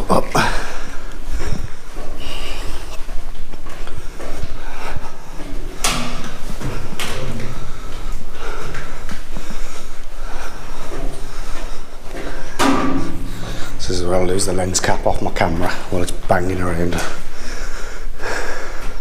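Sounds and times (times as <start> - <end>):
person breathing hard: 0.2 - 14.1, 16.9 - 19.0.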